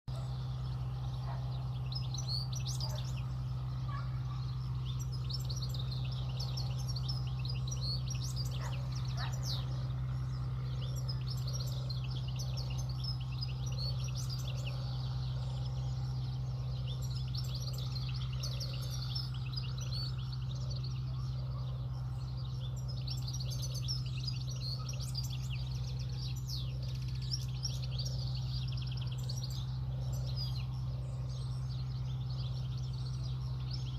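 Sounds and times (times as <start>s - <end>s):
finches chirping: 0.1s - 33.9s
low hum: 0.1s - 33.9s.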